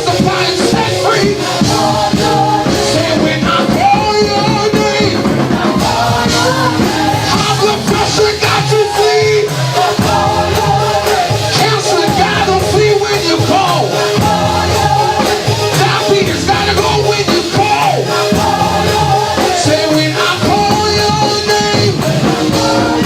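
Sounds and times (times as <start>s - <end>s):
worship music with singing and band: 0.0s - 23.0s.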